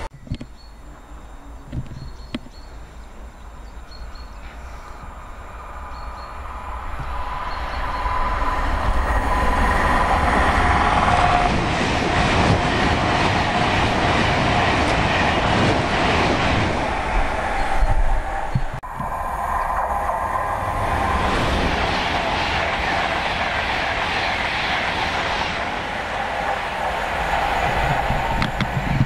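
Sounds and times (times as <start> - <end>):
train passing: 2.8 - 29.0.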